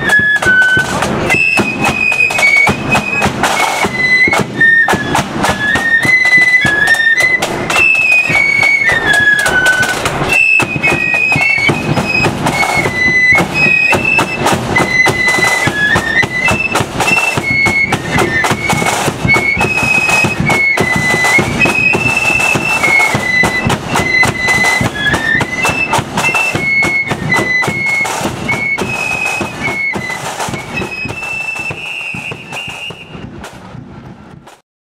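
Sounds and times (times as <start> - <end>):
bass drum and drums: 0.0 - 34.6
flute band playing: 0.0 - 34.6.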